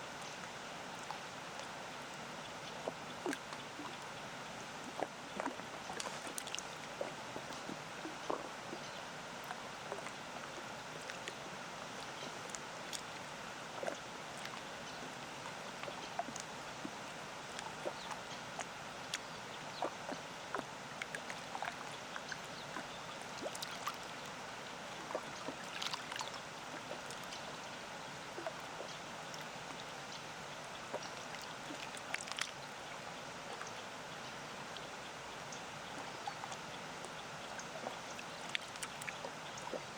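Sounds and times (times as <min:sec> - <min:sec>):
small waves lapping: 0:00.0 - 0:39.9.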